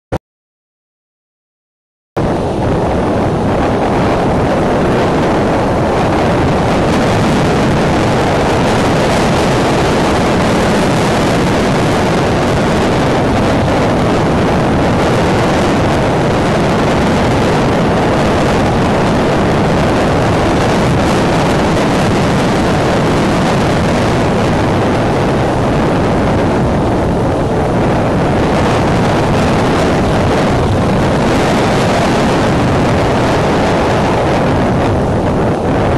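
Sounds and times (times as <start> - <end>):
wind buffeting microphone: 2.2 - 35.9.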